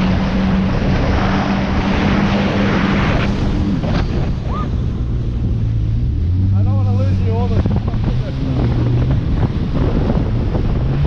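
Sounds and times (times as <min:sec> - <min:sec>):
jet ski engine running: 0:00.0 - 0:11.0
wind buffeting on microphone: 0:00.0 - 0:11.0.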